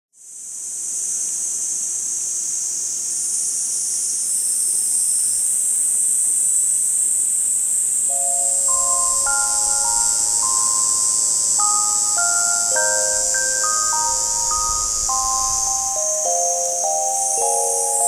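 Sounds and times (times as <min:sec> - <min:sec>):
cicadas buzzing: 0:02.4 - 0:18.0.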